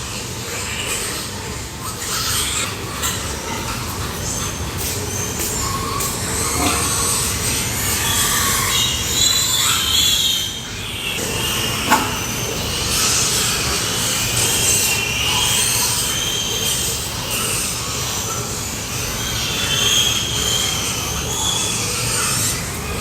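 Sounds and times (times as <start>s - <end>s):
pigs squealing: 0.0s - 23.0s
steady noisy background: 0.0s - 23.0s.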